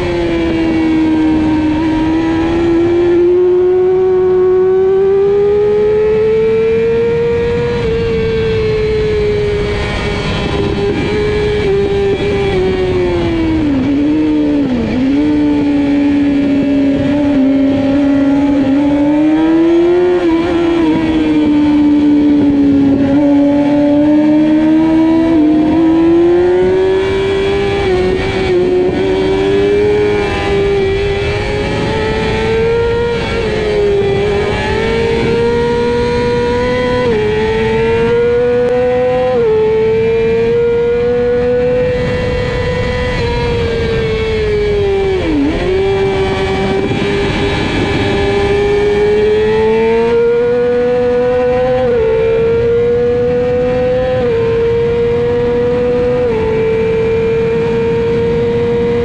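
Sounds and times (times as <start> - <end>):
motorcycle engine revving high: 0.0 - 59.0.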